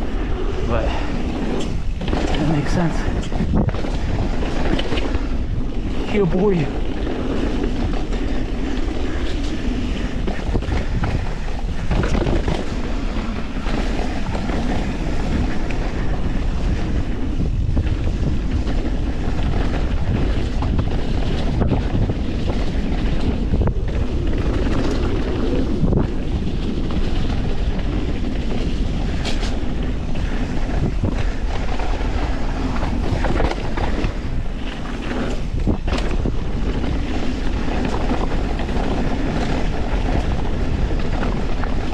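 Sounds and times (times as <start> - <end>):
bike chattering over dirt and rocks: 0.0 - 41.9
wind rushing over microphone: 0.0 - 41.9.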